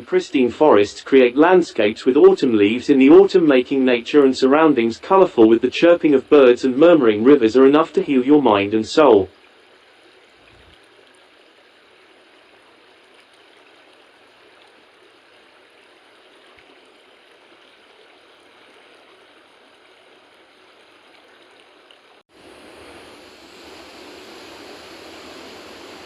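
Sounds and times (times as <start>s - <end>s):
rushing river water: 0.0s - 26.0s.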